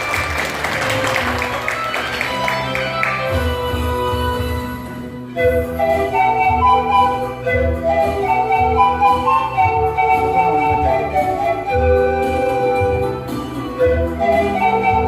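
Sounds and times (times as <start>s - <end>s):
pan flute ensemble melody: 0.0s - 15.0s.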